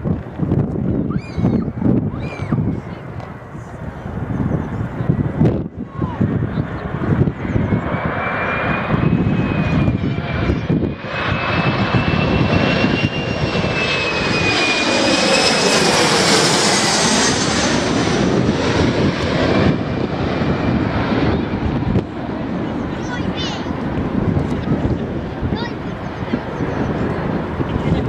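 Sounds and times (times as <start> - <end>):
airliner engines whining: 0.0 - 28.0
wind buffeting microphone: 0.0 - 28.0.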